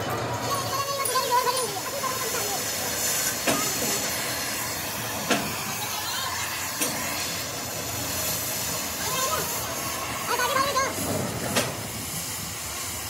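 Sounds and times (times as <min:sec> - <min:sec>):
workshop hiss: 0:00.0 - 0:13.0.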